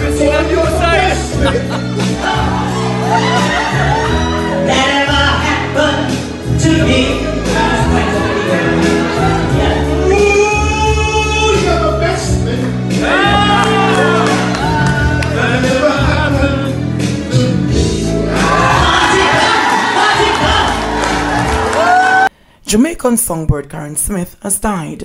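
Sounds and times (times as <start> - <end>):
person singing: 0.0 - 20.7
sustained instrumental backing: 0.0 - 22.3.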